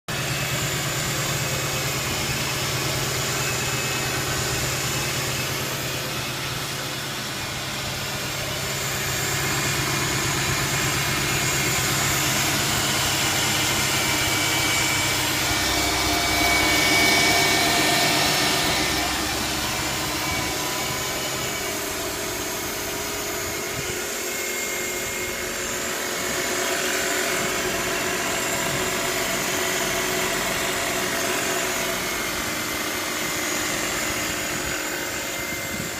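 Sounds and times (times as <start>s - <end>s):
car engine idling: 0.1s - 35.9s
thin high whine: 0.2s - 35.9s.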